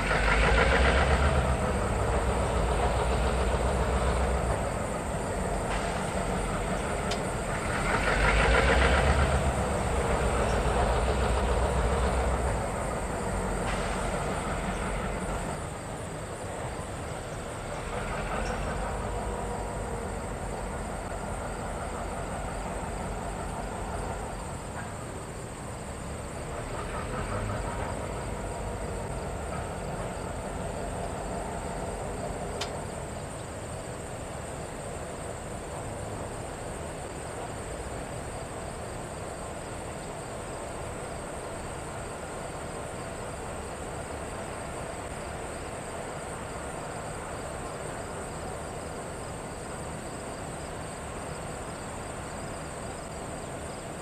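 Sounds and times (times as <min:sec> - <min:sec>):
diesel freight train moving: 0:00.0 - 0:54.0
insects chirring: 0:00.0 - 0:54.0.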